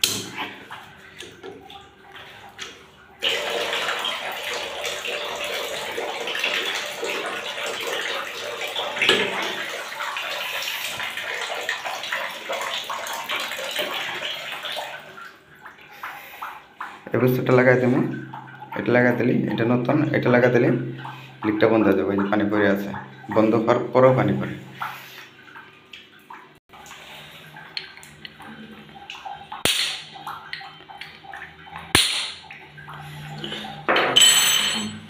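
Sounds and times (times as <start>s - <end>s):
tap water running: 0.0s - 35.0s.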